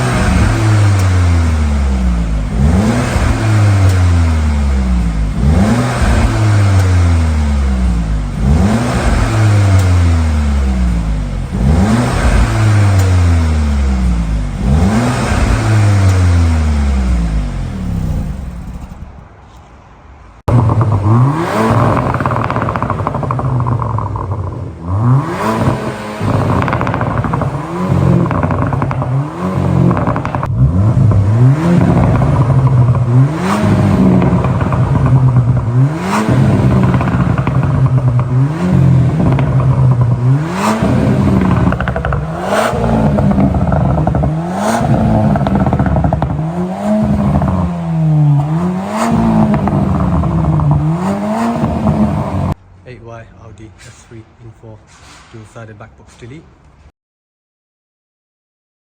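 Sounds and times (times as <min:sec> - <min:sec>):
car engine revving: 0:00.0 - 0:19.6, 0:20.4 - 0:52.6
exhaust pops and crackles: 0:00.0 - 0:19.7, 0:20.5 - 0:52.6.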